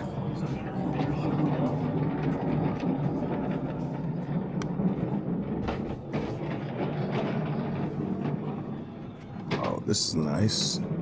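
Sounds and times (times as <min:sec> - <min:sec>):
rumble of distant voices: 0:00.0 - 0:11.0.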